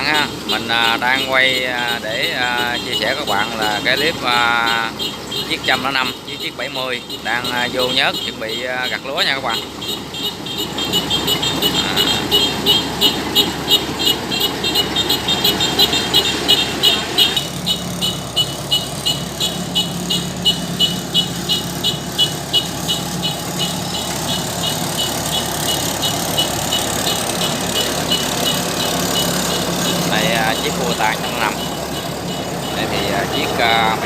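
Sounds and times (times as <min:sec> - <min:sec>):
diesel engine running: 0:00.0 - 0:34.0
rapid regular ticking: 0:00.0 - 0:34.0.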